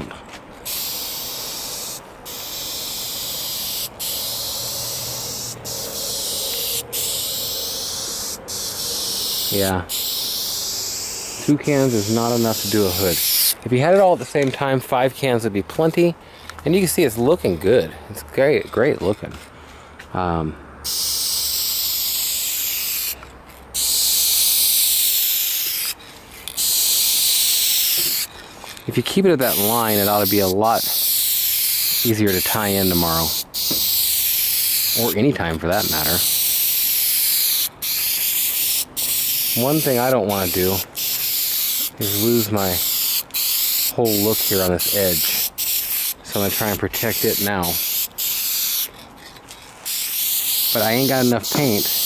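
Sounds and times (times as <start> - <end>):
spray paint can hissing: 0.6 - 13.6, 20.8 - 52.0.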